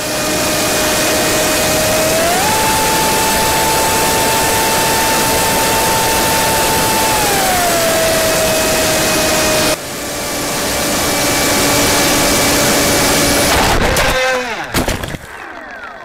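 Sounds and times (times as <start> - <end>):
electric motor and propeller whining: 0.0 - 16.0.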